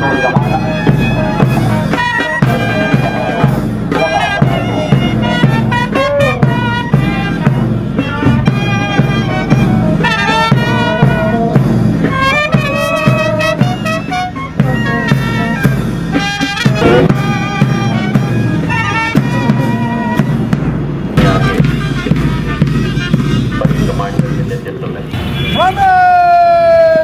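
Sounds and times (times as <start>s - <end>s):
brass band playing march: 0.0s - 24.7s
steady drum beat: 0.0s - 25.0s.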